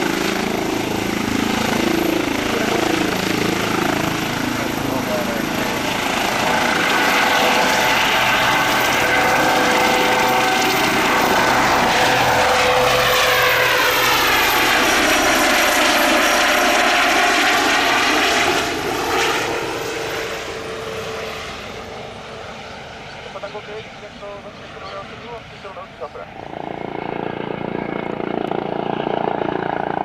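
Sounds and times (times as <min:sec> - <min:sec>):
helicopter passing by: 0:00.0 - 0:30.0.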